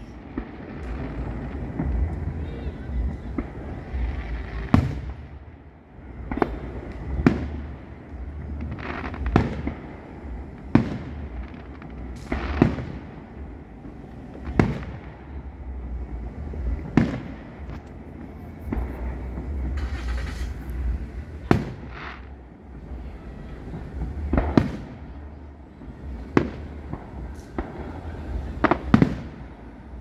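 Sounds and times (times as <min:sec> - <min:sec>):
fireworks booming: 0:00.0 - 0:30.0.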